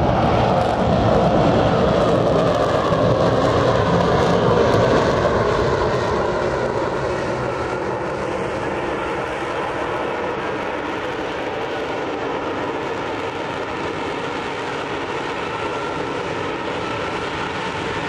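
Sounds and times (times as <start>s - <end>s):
jet engine hovering: 0.0s - 18.0s.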